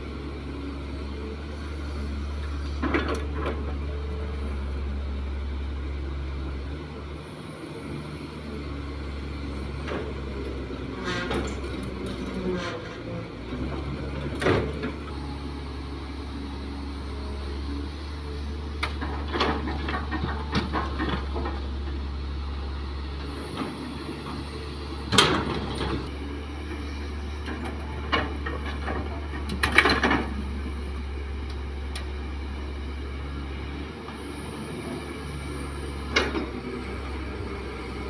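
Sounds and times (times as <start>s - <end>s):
excavator engine running: 0.0s - 38.0s.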